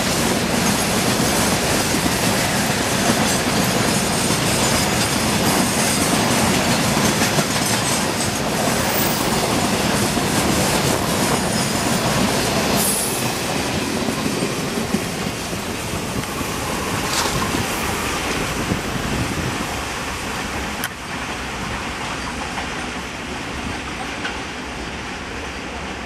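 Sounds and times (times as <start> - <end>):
freight train wheels clickety-clack: 0.0 - 26.0.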